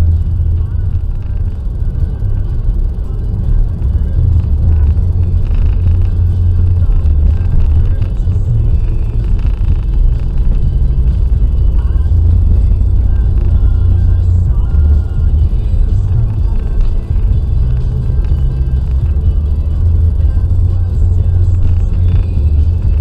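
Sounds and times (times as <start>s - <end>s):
car engine and road noise: 0.0s - 23.0s
faint radio music and voices: 0.0s - 23.0s.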